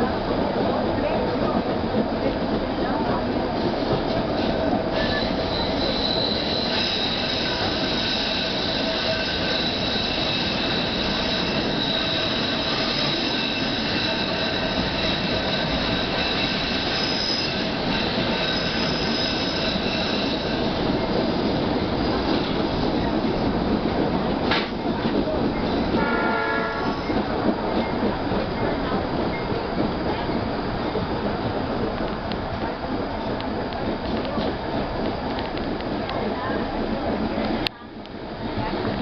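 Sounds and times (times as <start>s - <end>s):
train rumbling on track: 0.0s - 39.0s
steel wheels squealing on rails: 0.7s - 39.0s.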